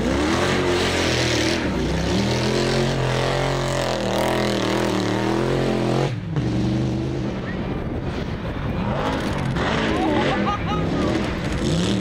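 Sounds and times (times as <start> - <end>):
car engine running hard: 0.0 - 12.0
engine revving up and down: 0.0 - 12.0.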